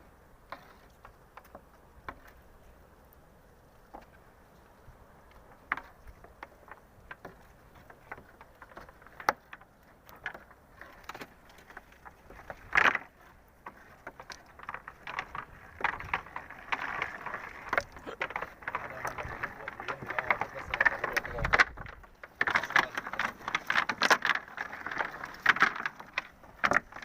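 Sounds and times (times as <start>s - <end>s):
small clicks and knocks: 0.5s - 2.5s, 3.8s - 27.0s.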